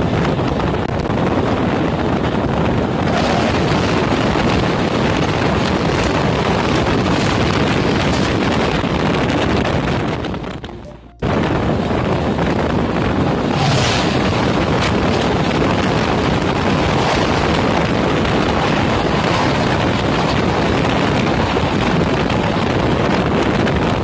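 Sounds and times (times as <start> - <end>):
wind and wheel-on-rail noise: 0.0 - 24.0
passing train rushing by: 1.9 - 12.5, 13.1 - 22.7.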